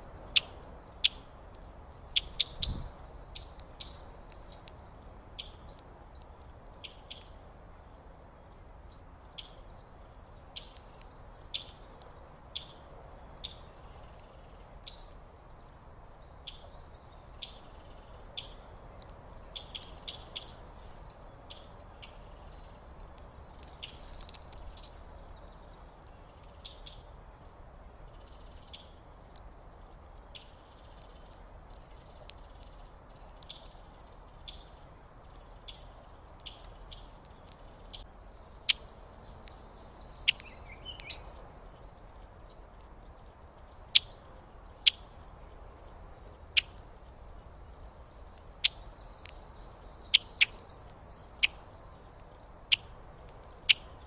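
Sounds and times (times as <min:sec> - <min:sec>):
faint background hiss: 0:00.0 - 0:54.0
small birds chip calls: 0:00.0 - 0:54.0.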